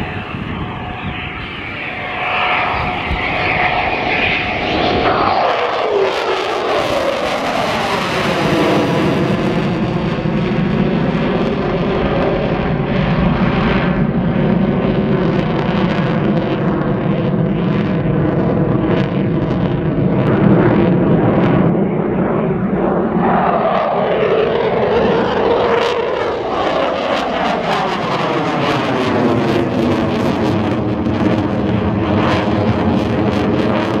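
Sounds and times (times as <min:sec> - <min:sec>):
jet passing overhead: 0:00.0 - 0:34.0.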